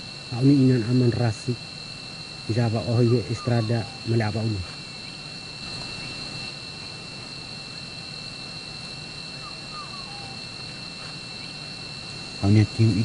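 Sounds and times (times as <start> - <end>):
faint chirps: 0.0 - 13.0
faint steady tone: 0.0 - 13.0
insect chorus buzzing: 0.0 - 13.0.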